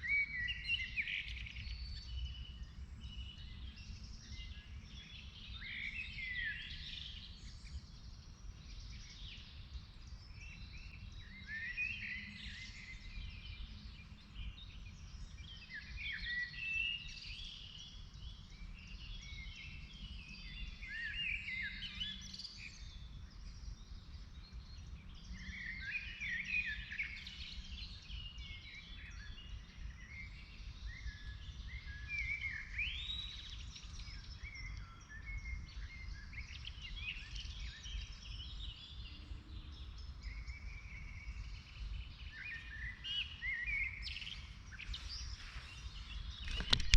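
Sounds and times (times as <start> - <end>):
birds singing and chirping: 0.0 - 46.9.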